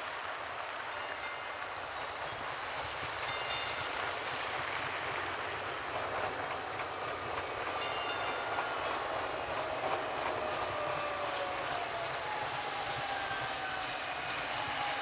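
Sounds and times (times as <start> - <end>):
train wheels rushing on rail: 0.0 - 15.0
train whine: 0.0 - 15.0.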